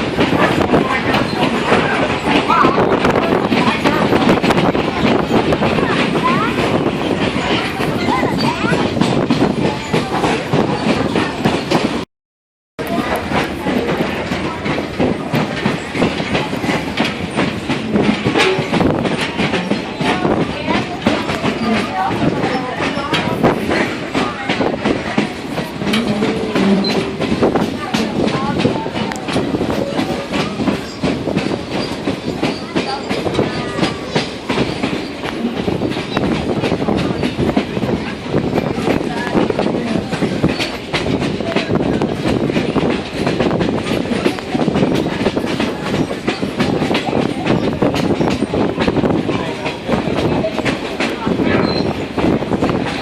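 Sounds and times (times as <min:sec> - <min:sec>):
wheels clicking over rails: 0:00.0 - 0:12.0, 0:12.8 - 0:53.0
train rumbling on track: 0:00.0 - 0:12.1, 0:12.8 - 0:53.0.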